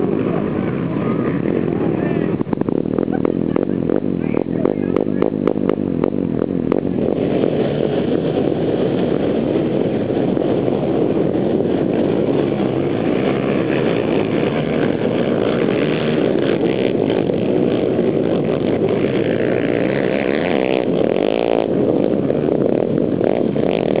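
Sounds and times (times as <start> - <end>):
quad bike engines revving: 0.0 - 24.0
quad bike passing close: 0.0 - 24.0.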